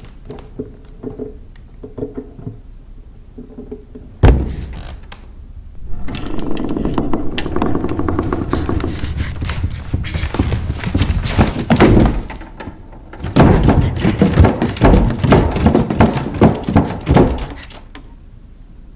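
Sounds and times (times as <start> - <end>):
wooden chest rattling and knocking: 0.0 - 5.1, 7.0 - 17.9.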